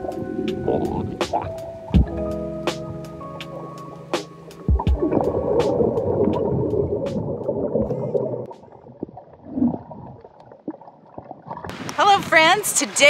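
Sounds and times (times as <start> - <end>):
underwater bubbling and gurgling: 0.0 - 12.0.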